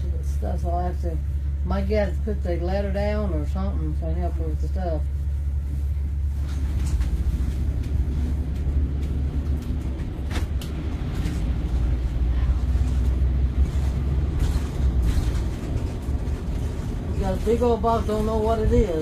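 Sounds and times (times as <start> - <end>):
vehicle rumble from inside: 0.0 - 19.0.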